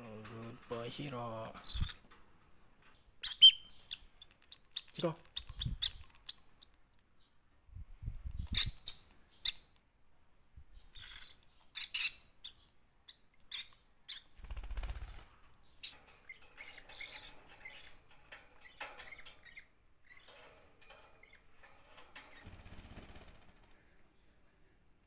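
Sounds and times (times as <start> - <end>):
parrots chirping and clicking: 0.1 - 7.2, 8.4 - 9.9, 10.9 - 23.4.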